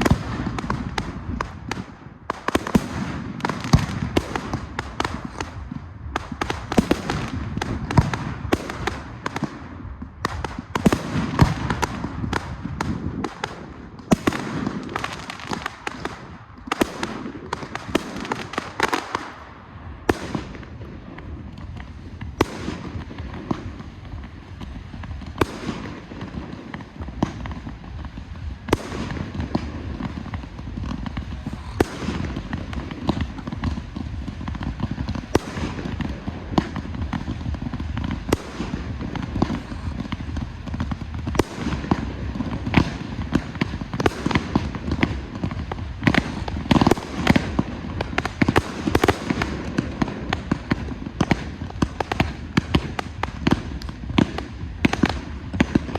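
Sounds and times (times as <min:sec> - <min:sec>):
fireworks crackle: 0:00.0 - 0:55.9.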